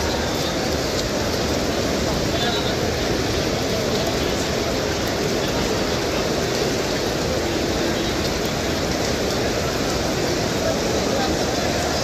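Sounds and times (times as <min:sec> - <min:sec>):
rain on pavement: 0:00.0 - 0:12.0.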